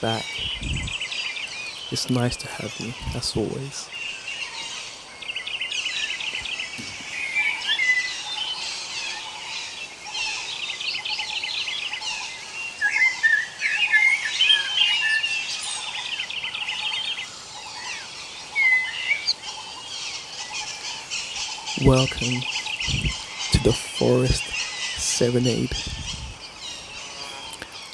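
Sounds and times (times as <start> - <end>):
faint outdoor hiss: 0.0 - 12.5, 15.3 - 27.9
songbirds chirping: 0.0 - 27.9.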